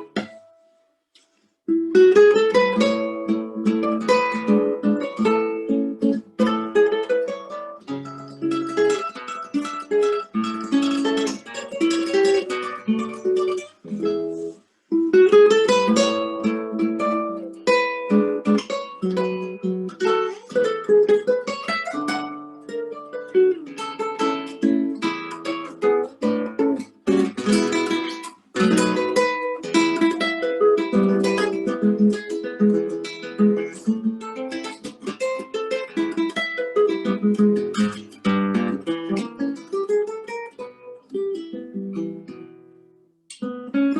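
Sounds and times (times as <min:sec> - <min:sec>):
solo guitar playing a waltz: 0:00.0 - 0:00.8, 0:01.7 - 0:43.9.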